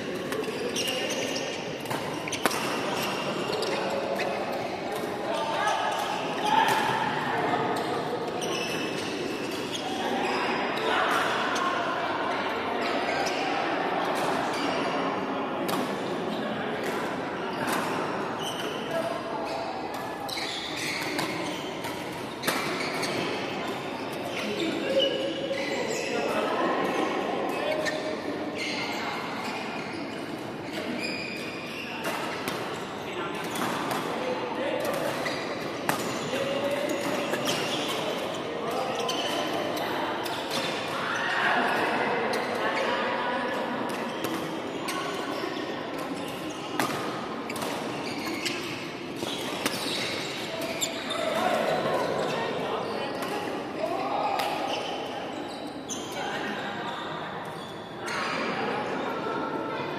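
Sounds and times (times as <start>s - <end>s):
hubbub of voices and play: 0.0s - 59.9s.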